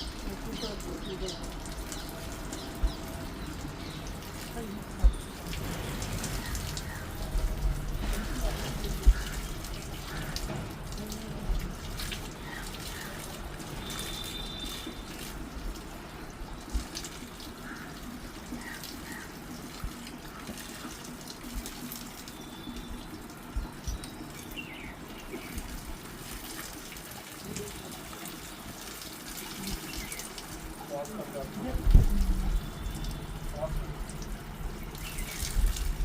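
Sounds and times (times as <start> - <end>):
running water: 0.0 - 36.0
small knocks and splashes: 0.0 - 36.0.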